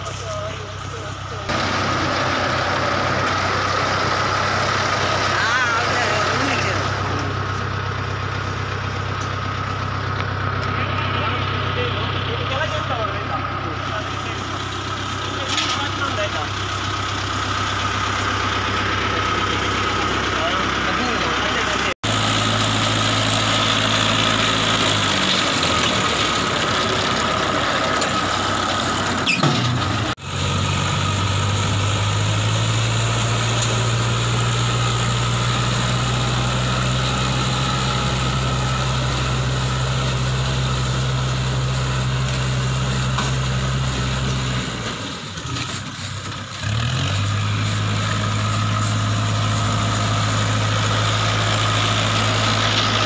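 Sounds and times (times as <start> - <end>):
baler engine humming: 0.0 - 53.0.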